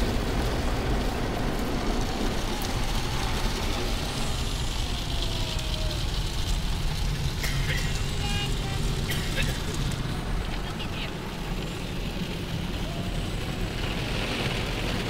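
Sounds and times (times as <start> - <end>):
car wash water jets and brushes: 0.0 - 15.0
low rumble: 0.0 - 15.0.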